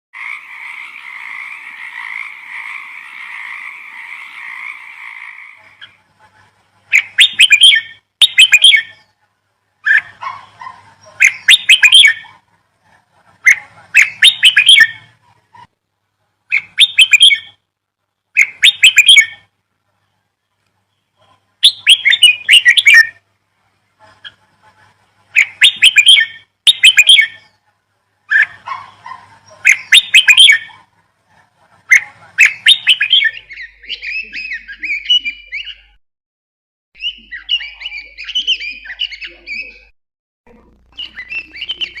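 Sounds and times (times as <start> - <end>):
bird chirping: 0.2 - 15.7, 16.5 - 23.2, 25.3 - 36.0, 37.0 - 39.9, 40.9 - 42.0.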